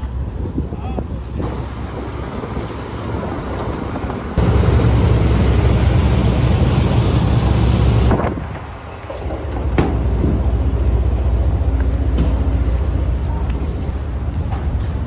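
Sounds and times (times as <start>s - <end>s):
road and wind noise: 0.0s - 15.0s
heavy low rumble: 1.2s - 15.0s.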